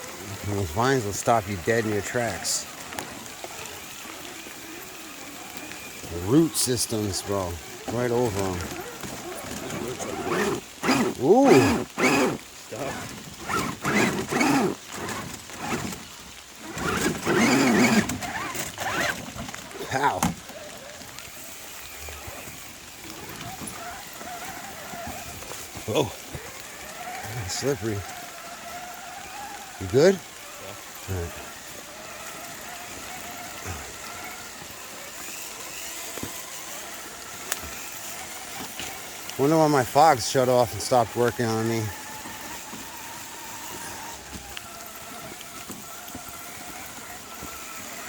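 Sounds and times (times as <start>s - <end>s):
steady hiss: 0.0s - 46.2s
electric toy truck motors whining: 0.0s - 48.0s.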